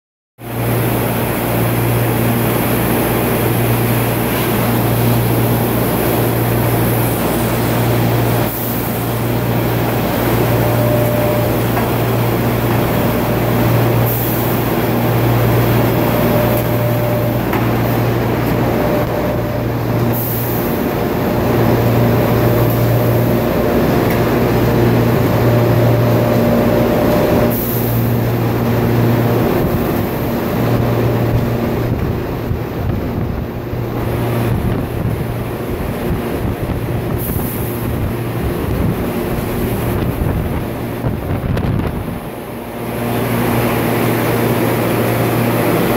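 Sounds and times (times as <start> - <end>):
rolling mill loud low hum: 0.4 - 45.9.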